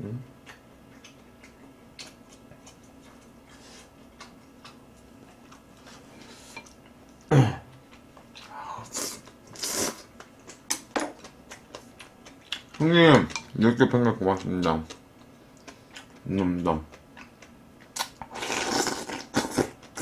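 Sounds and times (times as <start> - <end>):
person chewing: 0.4 - 13.6, 14.3 - 20.0.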